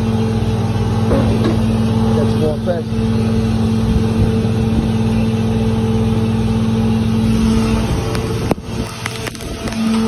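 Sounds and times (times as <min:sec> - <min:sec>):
boat engine running: 0:00.0 - 0:10.0
wind: 0:00.0 - 0:10.0.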